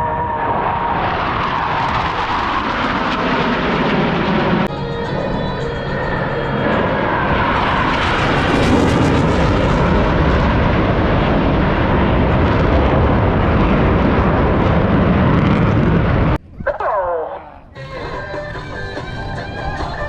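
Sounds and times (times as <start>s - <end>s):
jet aircraft roar: 0.0s - 20.0s.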